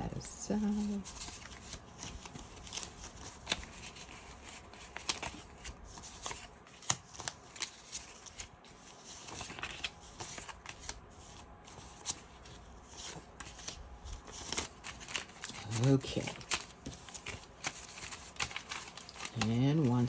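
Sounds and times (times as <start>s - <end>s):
paper banknotes rustling: 0.1s - 20.0s.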